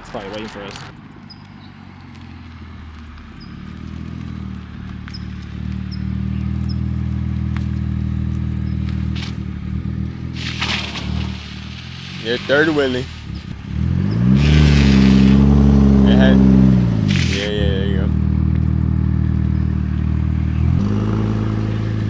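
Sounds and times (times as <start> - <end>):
car exhaust drone at low revs: 0.0 - 22.0.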